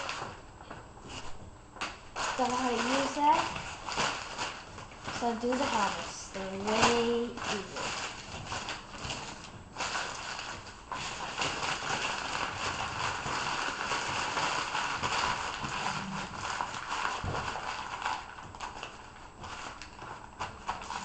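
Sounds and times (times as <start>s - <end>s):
newspaper crumpling: 0.0s - 0.4s, 1.1s - 21.0s.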